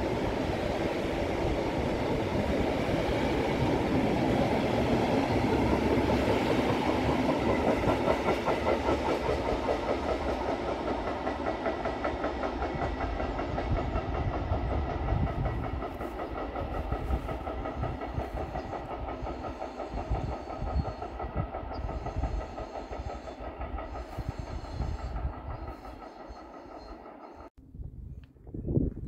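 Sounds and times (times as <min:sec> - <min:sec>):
freight train wheels clacking on rails: 0:00.0 - 0:27.5.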